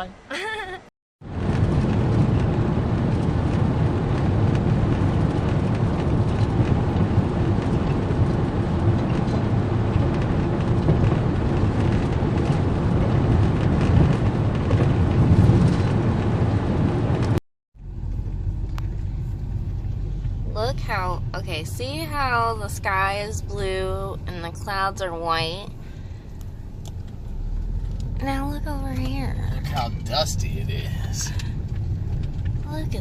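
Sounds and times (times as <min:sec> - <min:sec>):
road and wind noise: 0:00.0 - 0:33.0.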